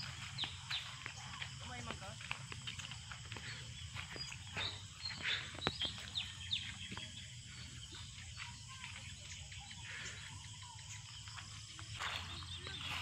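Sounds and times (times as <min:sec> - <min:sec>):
birds chirping: 0:00.0 - 0:13.0
insect drone: 0:00.0 - 0:13.0.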